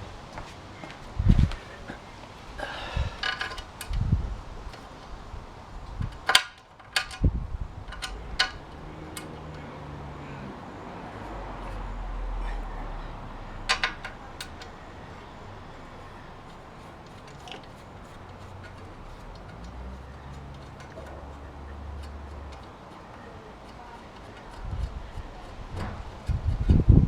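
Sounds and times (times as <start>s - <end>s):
low steady hum: 0.0s - 27.0s
parts and tools clicking: 0.8s - 27.0s.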